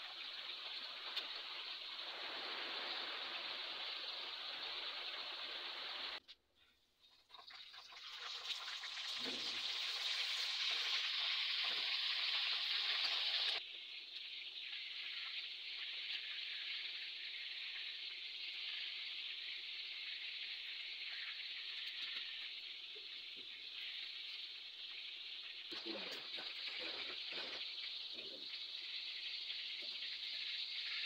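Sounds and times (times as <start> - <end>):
fish sizzling in hot oil: 0.0 - 6.2, 7.0 - 31.0.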